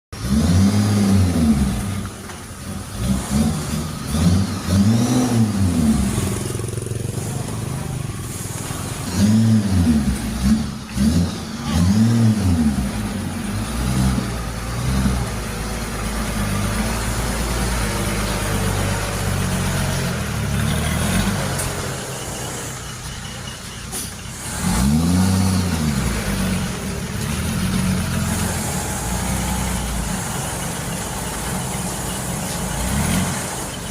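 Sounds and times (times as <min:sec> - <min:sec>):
diesel engine revving and idling: 0:00.1 - 0:33.9.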